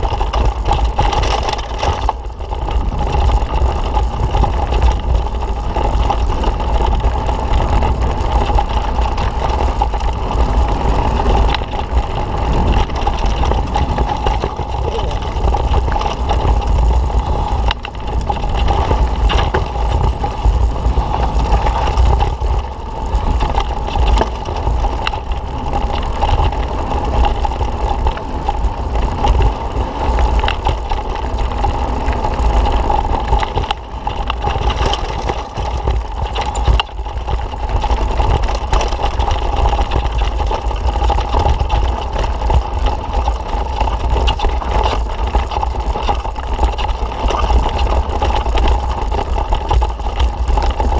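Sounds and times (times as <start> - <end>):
bike parts rattling and clicking: 0.0 - 50.9
steady whine: 0.0 - 50.9
wind rumbling on microphone: 0.0 - 50.9.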